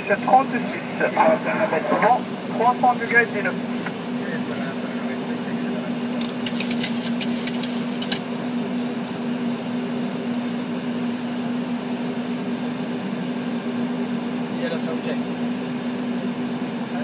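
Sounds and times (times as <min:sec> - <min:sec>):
air-conditioning and fans humming: 0:00.0 - 0:17.0.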